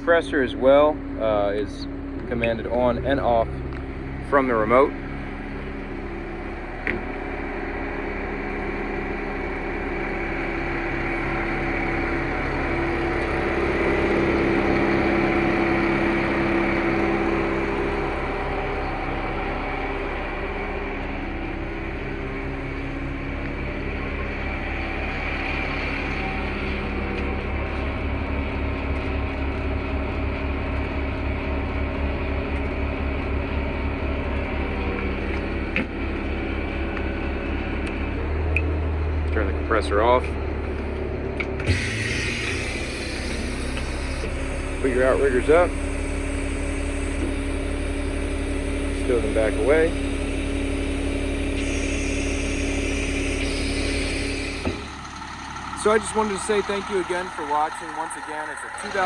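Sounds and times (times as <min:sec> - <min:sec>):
air compressor running: 0:00.0 - 0:59.0
diesel engine drone: 0:00.0 - 0:59.0.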